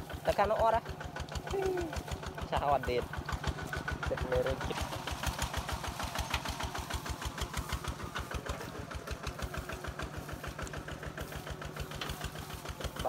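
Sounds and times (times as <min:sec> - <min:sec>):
walking tractor engine running: 0:00.0 - 0:13.0.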